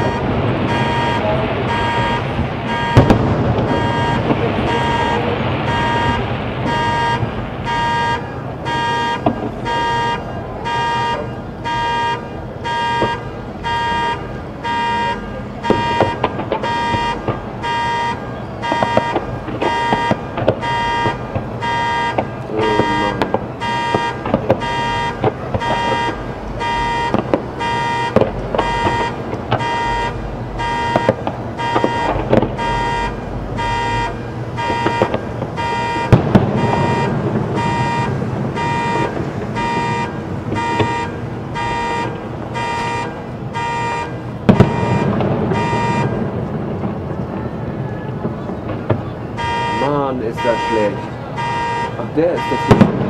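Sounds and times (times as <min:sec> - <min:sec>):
electronic alarm beeping: 0:00.0 - 0:46.2, 0:49.4 - 0:53.0
deep firework booms: 0:00.0 - 0:53.0
fireworks bangs and crackles: 0:00.0 - 0:53.0.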